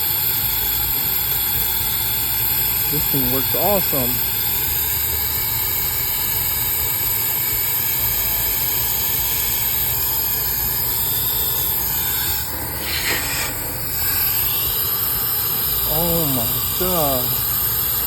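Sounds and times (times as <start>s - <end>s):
blower rushing air: 1.8s - 18.0s.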